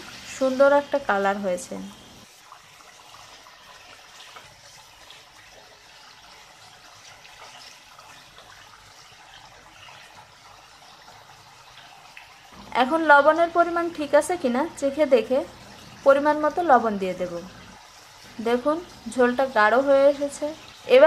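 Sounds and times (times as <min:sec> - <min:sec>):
gravy bubbling in a pot: 0:00.0 - 0:21.0.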